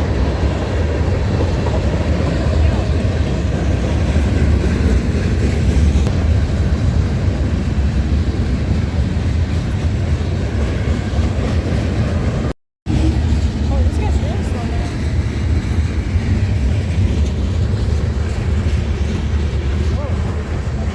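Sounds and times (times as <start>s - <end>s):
train rumbling past: 0.0s - 20.9s.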